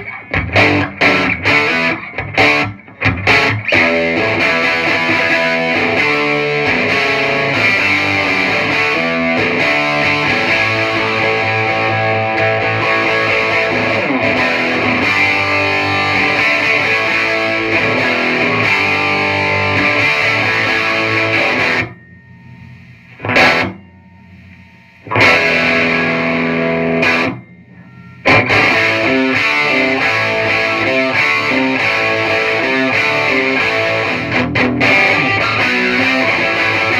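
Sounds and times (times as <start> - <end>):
distorted electric guitar: 0.0 - 36.9
faint amp noise: 0.0 - 36.9.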